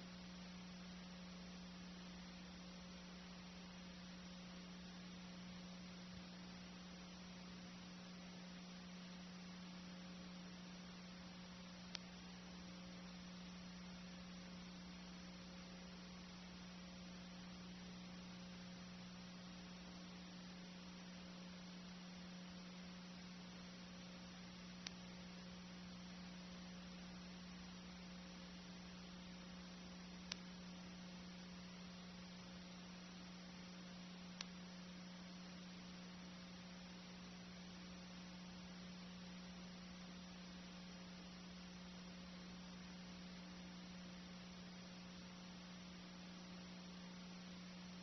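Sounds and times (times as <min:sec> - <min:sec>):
faint hiss: 0:00.0 - 0:48.0
low electrical hum: 0:00.0 - 0:48.0.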